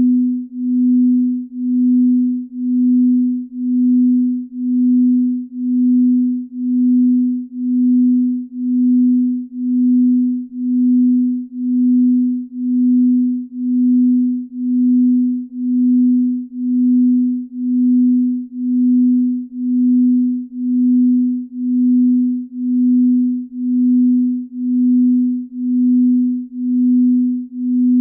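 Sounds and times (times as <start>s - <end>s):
low pulsing pure tone: 0.0s - 28.0s.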